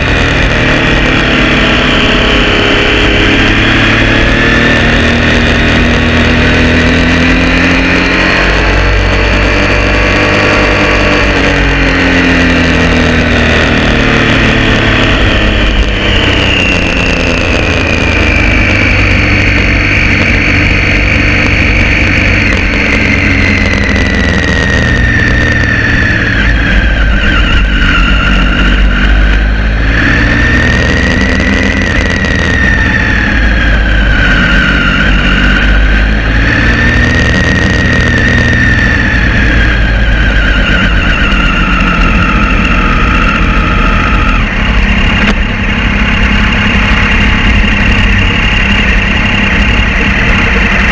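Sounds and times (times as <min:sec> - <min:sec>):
motorcycle engine at low revs: 0:00.0 - 0:50.9.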